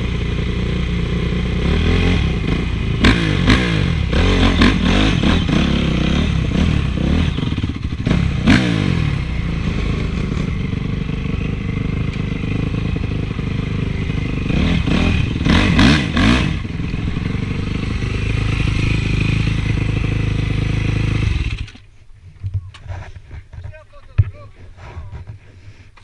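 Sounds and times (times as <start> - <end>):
motocross engine revving: 0.0 - 21.9.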